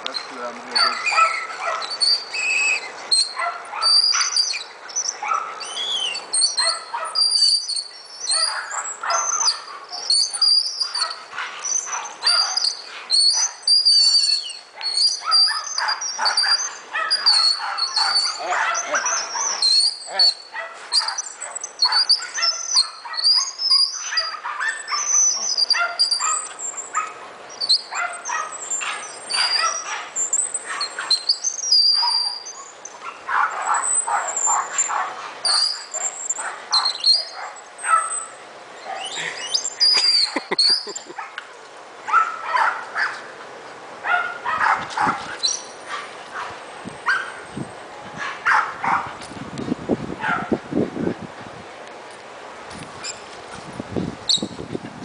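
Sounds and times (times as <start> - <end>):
birds chirping: 0.0 - 49.0, 53.0 - 53.4.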